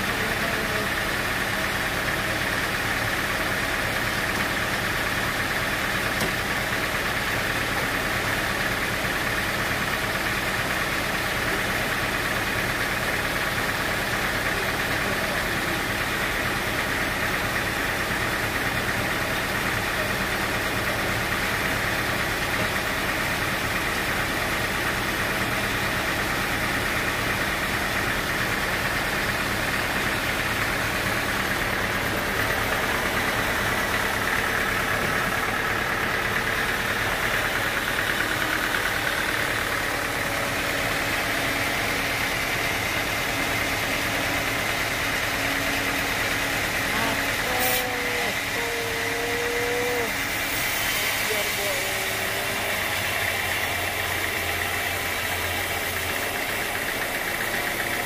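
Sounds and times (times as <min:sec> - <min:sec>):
band sawmill running: 0:00.0 - 0:58.0.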